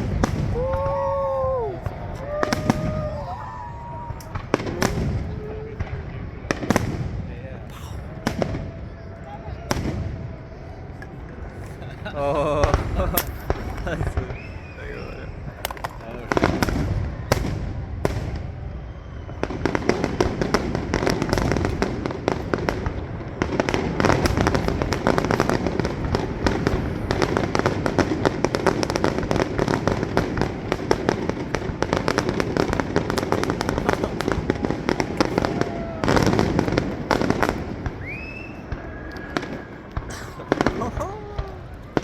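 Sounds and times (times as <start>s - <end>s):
fireworks bangs and crackles: 0.0s - 42.0s
fireworks deep booms: 0.0s - 42.0s.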